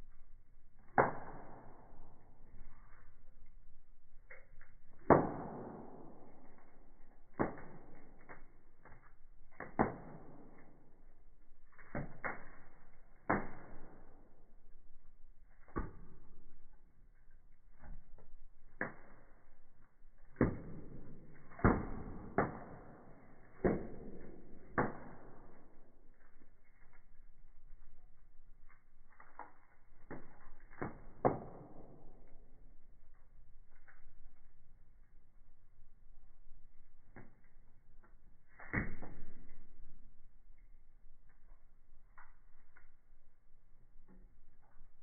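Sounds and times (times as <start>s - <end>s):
fire crackling and popping: 0.0s - 45.0s.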